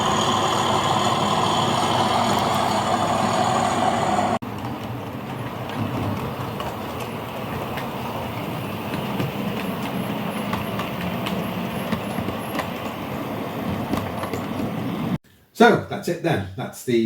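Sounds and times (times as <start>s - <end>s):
model train running on track: 0.0s - 15.2s.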